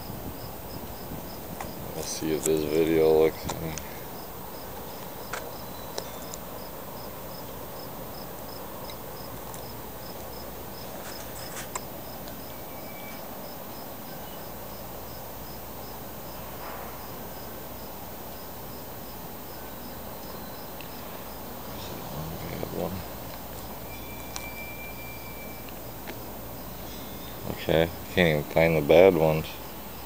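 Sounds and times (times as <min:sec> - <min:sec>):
insect chirping: 0:00.0 - 0:30.0
steady background hiss: 0:00.0 - 0:30.0.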